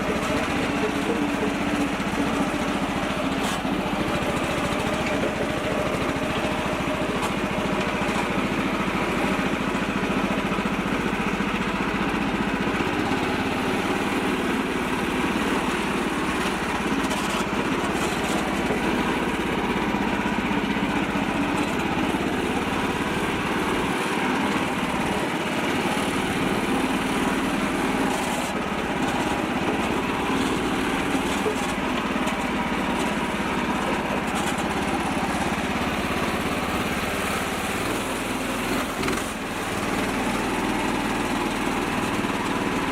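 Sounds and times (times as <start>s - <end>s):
small tractor engine running: 0.0s - 42.9s.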